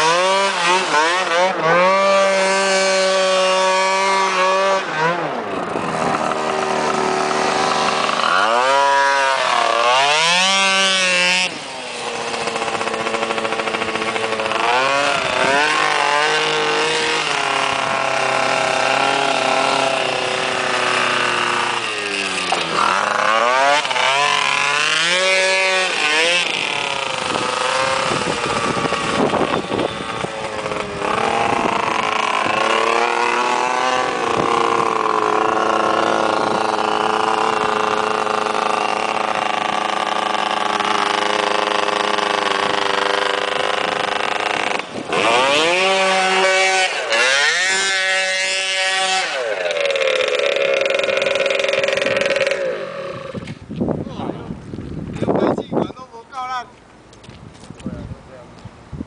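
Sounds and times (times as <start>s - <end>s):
atv engine revving: 0.0s - 56.6s.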